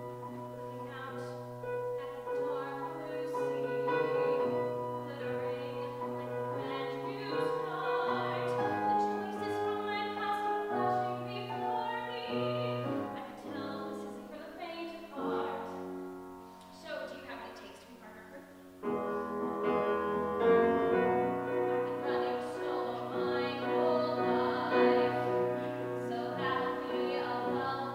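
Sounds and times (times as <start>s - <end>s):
piano chords: 0.0s - 27.9s.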